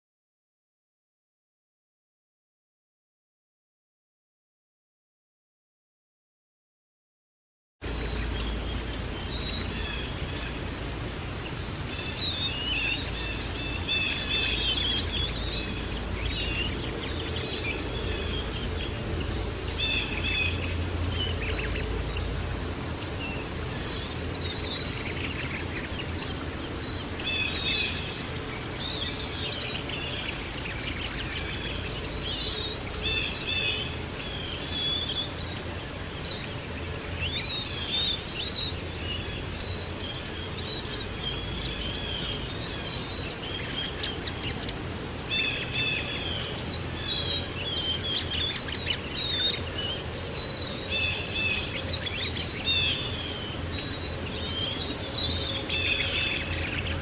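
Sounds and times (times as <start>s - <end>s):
songbirds chirping and trilling: 7.8s - 57.0s
steady background hiss: 7.8s - 57.0s.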